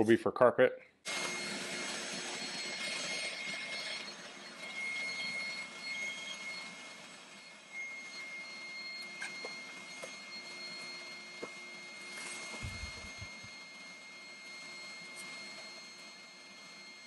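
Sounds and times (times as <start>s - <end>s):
vacuum cleaner motor whine: 1.1s - 17.0s.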